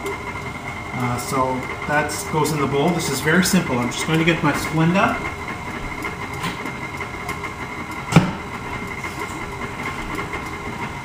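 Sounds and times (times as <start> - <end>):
stand mixer running: 0.0 - 11.0.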